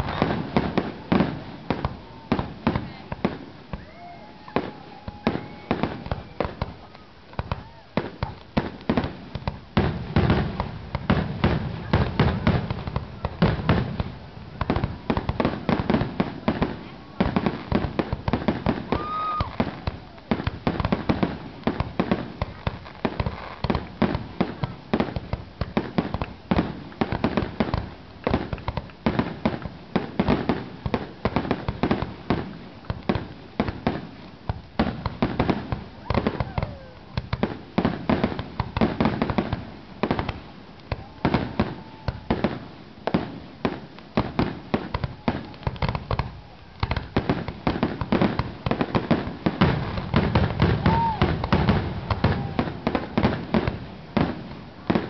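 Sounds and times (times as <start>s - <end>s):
fireworks bursting with sharp bangs: 0.0s - 55.0s
heavy fireworks booms: 0.0s - 55.0s.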